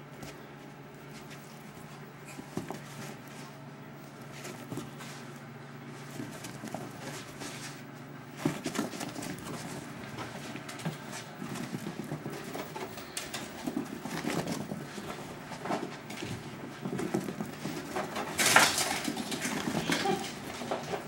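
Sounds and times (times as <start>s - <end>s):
noisy scuffle: 0.0s - 21.0s
dog's running footfalls: 1.0s - 21.0s.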